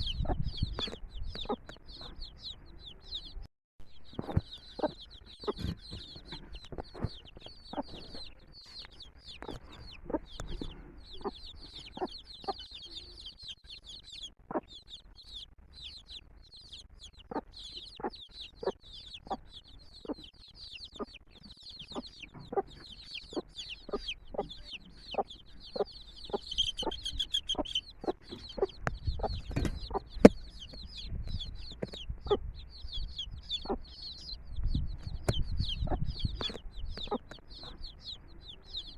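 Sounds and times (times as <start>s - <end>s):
hen clucking: 0.0s - 3.4s, 4.1s - 38.9s
chicks peeping: 0.0s - 38.9s.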